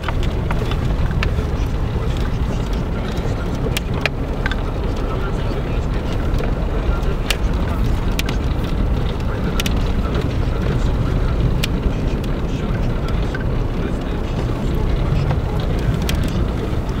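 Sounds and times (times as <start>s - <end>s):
vehicle engine rumbling over snow: 0.0s - 17.0s.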